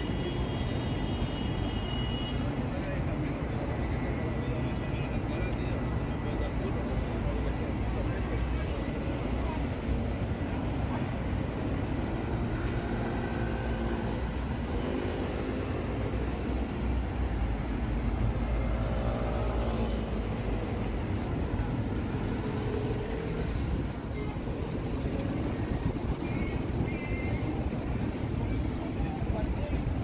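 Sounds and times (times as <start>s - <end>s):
faint voices: 0.0s - 30.0s
low rumble of traffic: 0.0s - 30.0s.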